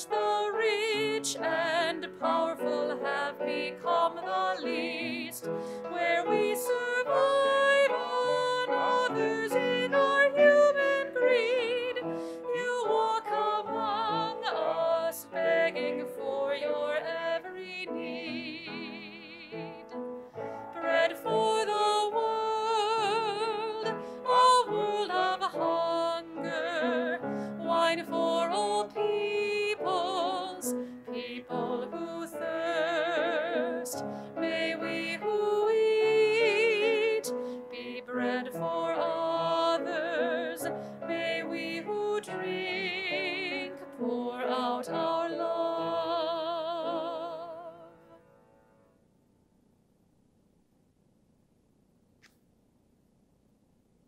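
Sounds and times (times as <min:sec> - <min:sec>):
woman singing a hymn: 0:00.0 - 0:19.8, 0:20.7 - 0:48.2
grand piano: 0:00.0 - 0:49.0.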